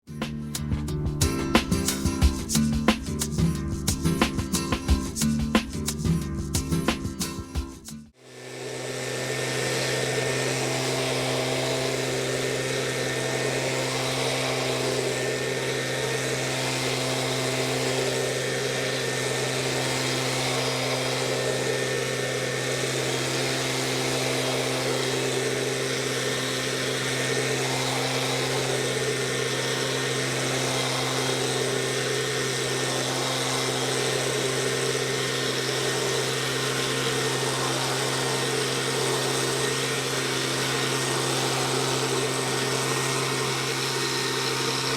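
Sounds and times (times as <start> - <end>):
two-stroke blower engine running: 0.0 - 44.9
air rushing through fan: 8.2 - 44.9.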